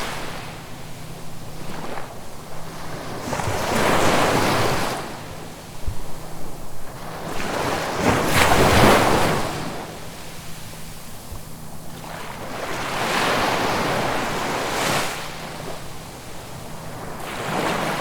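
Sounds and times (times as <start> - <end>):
sea waves washing in: 0.0 - 18.0.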